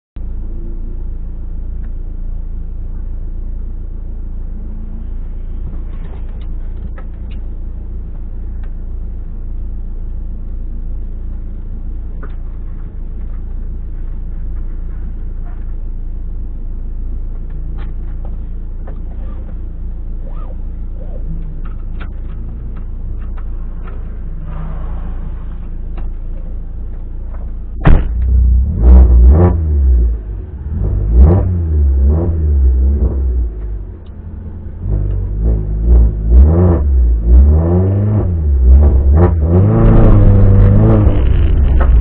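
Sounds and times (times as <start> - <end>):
car engine idling: 0.2 - 36.3, 38.0 - 42.0.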